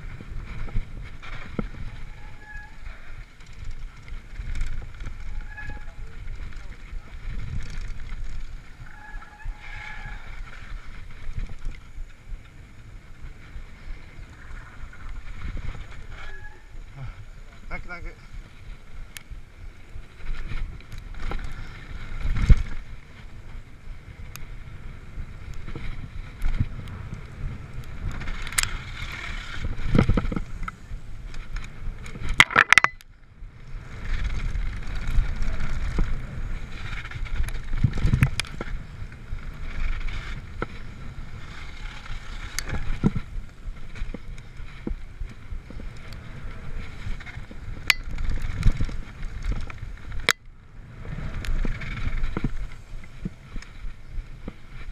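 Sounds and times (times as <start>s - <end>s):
bike clacking and rattling: 0.0s - 16.9s, 18.3s - 54.9s
tyres rumbling over dirt: 0.0s - 54.9s
wind on microphone: 0.0s - 54.9s.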